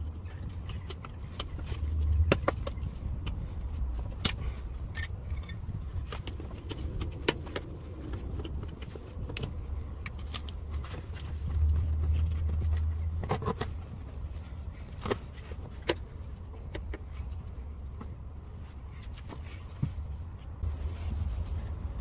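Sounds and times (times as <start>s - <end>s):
tools clicking on car parts: 0.0s - 20.1s.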